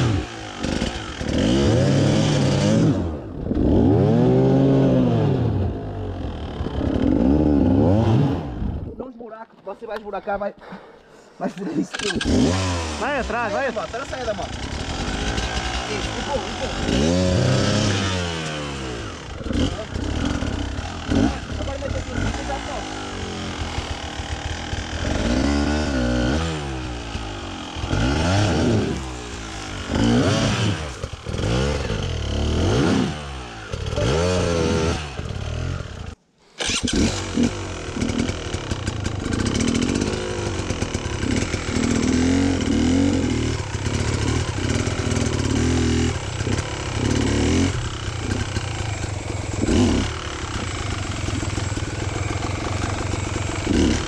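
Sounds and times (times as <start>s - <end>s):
dirt bike engines revving: 0.0s - 9.0s, 11.4s - 54.0s.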